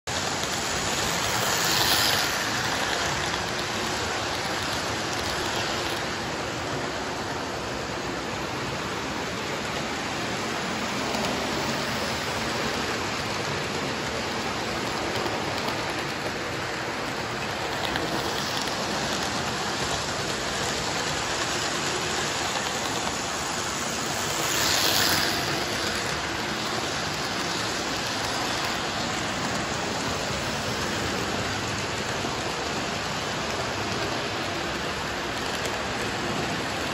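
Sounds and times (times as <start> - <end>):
model train wheels rattling: 0.1 - 6.8, 9.4 - 36.9
model train motors humming: 0.1 - 36.9.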